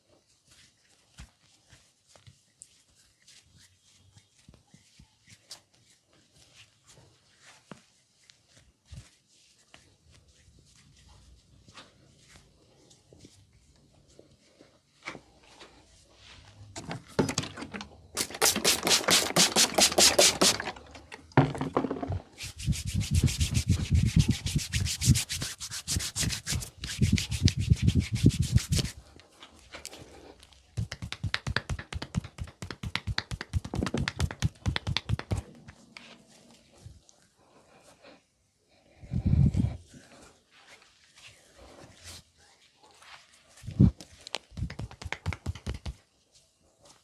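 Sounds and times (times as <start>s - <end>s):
hands rubbing in massage: 0.0s - 16.7s, 18.2s - 20.7s, 22.3s - 37.2s, 39.2s - 47.0s.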